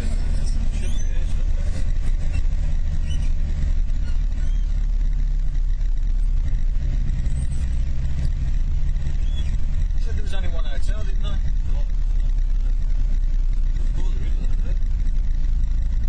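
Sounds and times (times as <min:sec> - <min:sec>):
car engine drone: 0:00.0 - 0:16.0
road and wind noise: 0:00.0 - 0:16.0.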